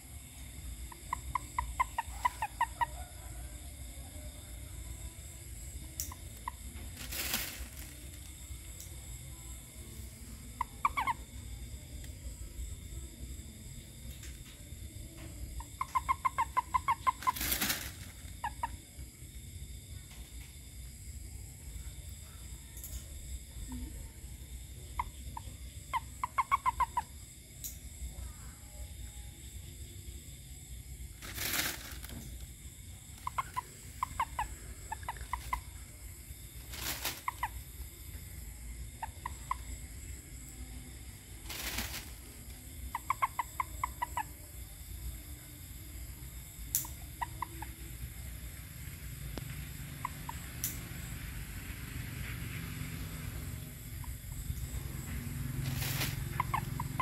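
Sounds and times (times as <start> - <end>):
frog croaking: 0.0 - 19.9, 22.0 - 30.1, 31.1 - 57.0.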